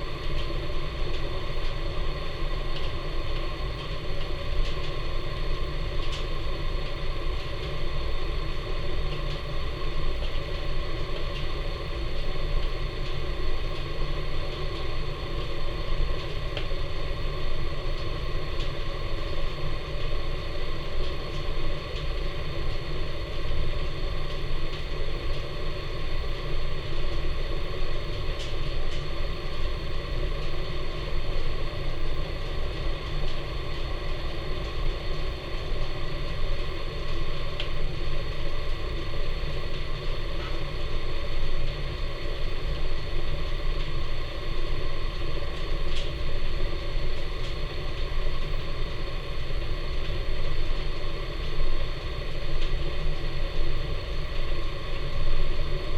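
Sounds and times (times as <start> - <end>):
fire crackles: 0.0 - 55.9
wood fire rumbling: 0.0 - 55.9.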